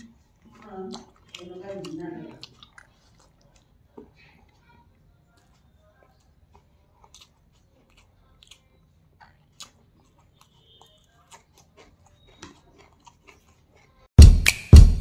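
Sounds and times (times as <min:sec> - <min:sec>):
raw onion bitten and chewed: 0:00.0 - 0:14.1
faint chewing: 0:00.0 - 0:14.2.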